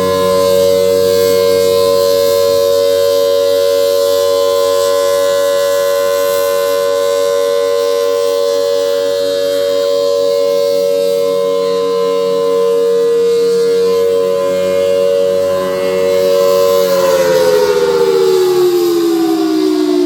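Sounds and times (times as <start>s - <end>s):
warning siren winding down: 0.0s - 20.0s.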